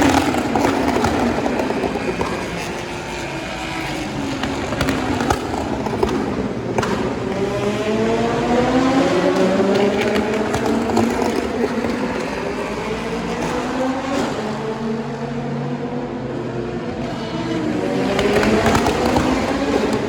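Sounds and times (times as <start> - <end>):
exhaust backfire cracks: 0.0 - 14.8, 17.0 - 20.0
race car engines passing: 0.0 - 20.0.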